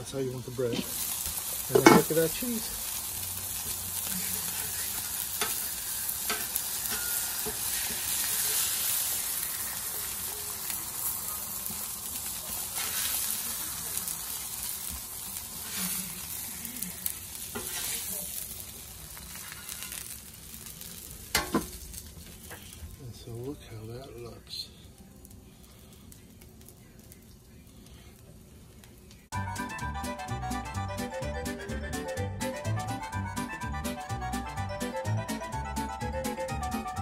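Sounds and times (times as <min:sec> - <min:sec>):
burgers sizzling on a griddle: 0:00.0 - 0:37.0.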